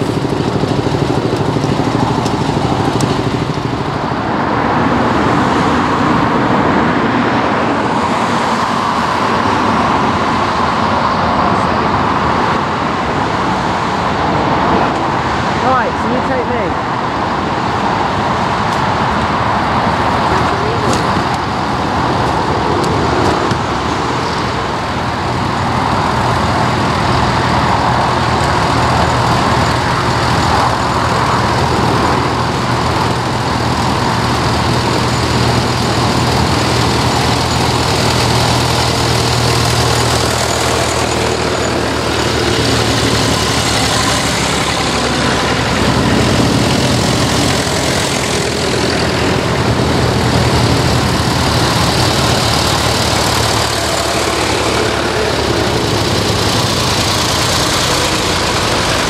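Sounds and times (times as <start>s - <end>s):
car passing: 0.0s - 59.0s
tractor engines running: 0.0s - 59.0s.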